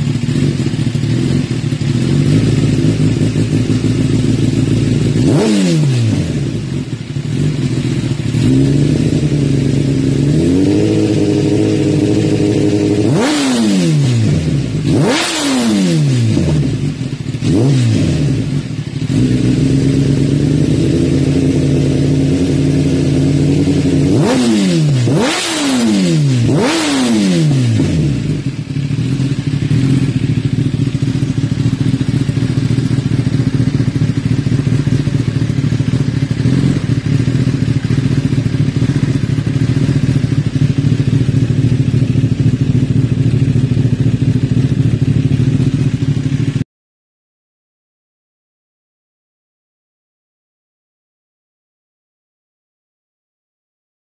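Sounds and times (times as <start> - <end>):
motorcycle engine idling: 0.0 - 15.2, 15.8 - 25.4, 26.3 - 46.6
motorcycle throttle blips: 0.0 - 46.6.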